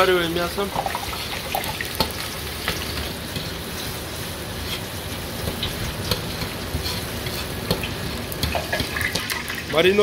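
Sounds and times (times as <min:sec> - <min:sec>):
meat sizzling in hot oil: 0:00.0 - 0:10.0
ladle clinking and scraping wok: 0:00.8 - 0:09.7.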